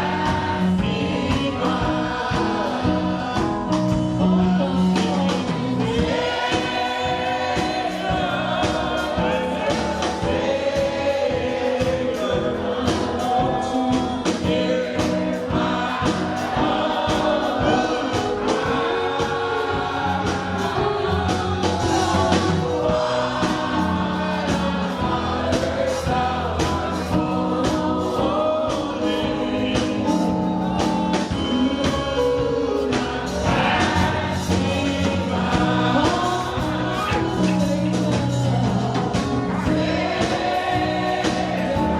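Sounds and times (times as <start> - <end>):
band with steady drum beat: 0.0 - 41.9
choir singing gospel: 0.0 - 41.9.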